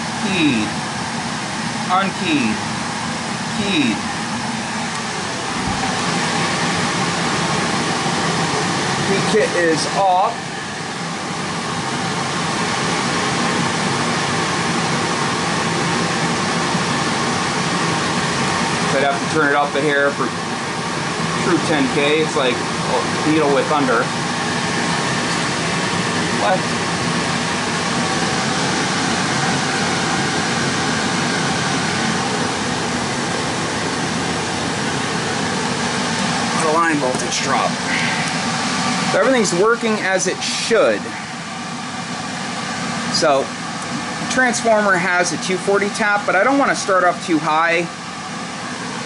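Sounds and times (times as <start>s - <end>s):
amplifier low hum: 0.0s - 49.0s
cooling air rushing: 0.0s - 49.0s.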